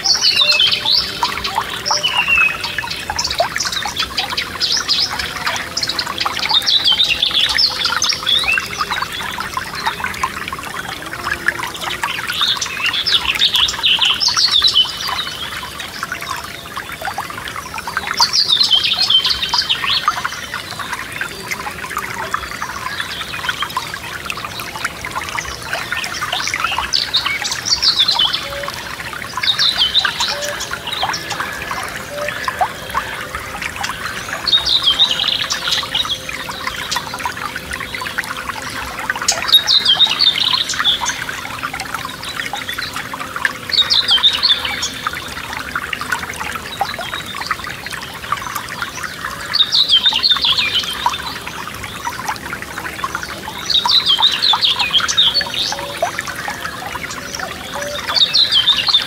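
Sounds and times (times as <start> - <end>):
songbird singing: 0.0 - 59.0
stream trickling: 0.0 - 59.0.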